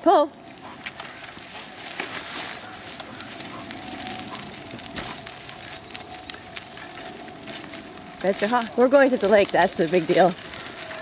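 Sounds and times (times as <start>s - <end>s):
cart wheels rolling on dirt: 0.0s - 11.0s
scattered clicks and ticks: 0.2s - 11.0s.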